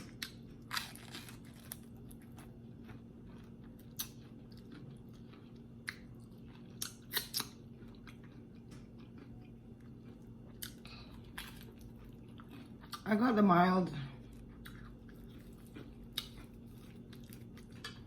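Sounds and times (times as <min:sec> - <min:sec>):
crispy breading crunching: 0:00.0 - 0:13.1, 0:14.3 - 0:18.0
close chewing of fried chicken: 0:00.0 - 0:13.4, 0:14.2 - 0:18.0
low steady hum: 0:00.0 - 0:18.0.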